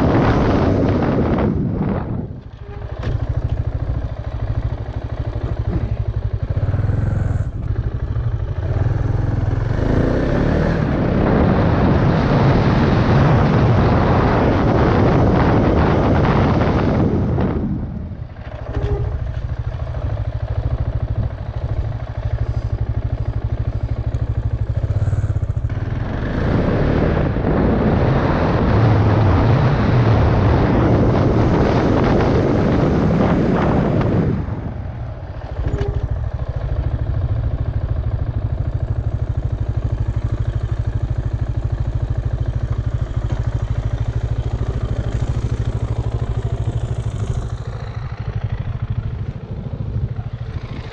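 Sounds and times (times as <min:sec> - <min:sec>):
motorcycle engine running: 0:00.0 - 0:50.9
wind rush on helmet microphone: 0:00.0 - 0:50.9.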